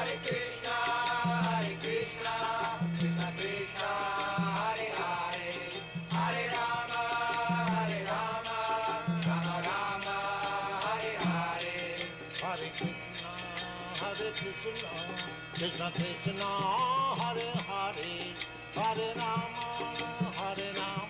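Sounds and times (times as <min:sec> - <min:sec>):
jingling bells: 0:00.0 - 0:21.0
voices singing a chant: 0:00.0 - 0:21.0.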